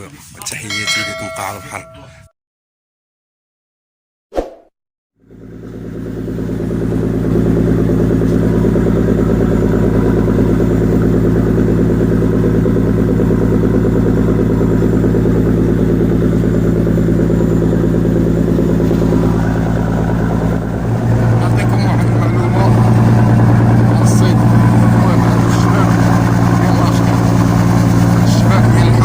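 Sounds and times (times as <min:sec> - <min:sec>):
boat engine running: 0:05.3 - 0:29.0.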